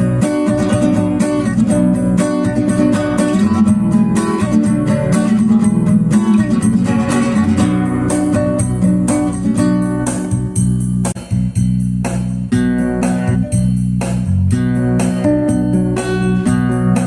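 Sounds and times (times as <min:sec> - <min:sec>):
plucked guitar music with beat: 0:00.0 - 0:17.0.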